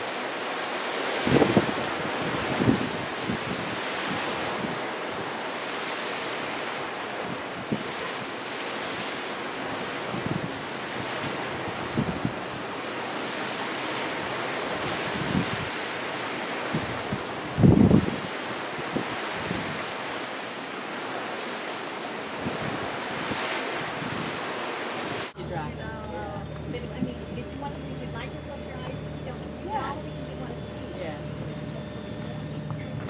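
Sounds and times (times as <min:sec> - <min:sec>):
sea wash: 0:00.0 - 0:33.0
wind on microphone: 0:00.0 - 0:33.0.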